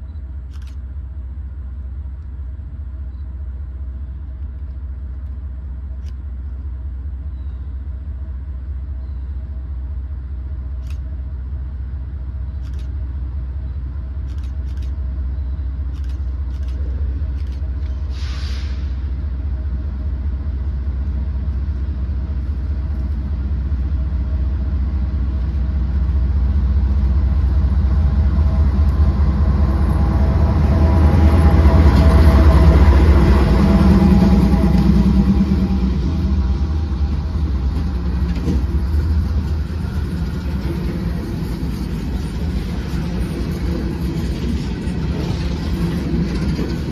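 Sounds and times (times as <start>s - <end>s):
diesel locomotive engine rumble: 0.0s - 46.9s.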